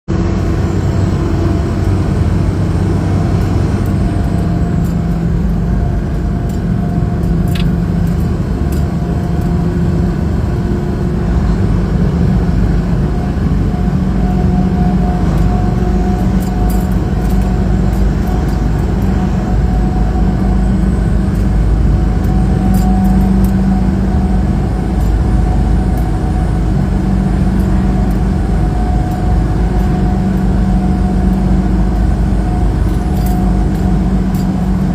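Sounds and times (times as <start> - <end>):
road noise: 0.1 - 34.9
truck engine drone: 0.1 - 34.9.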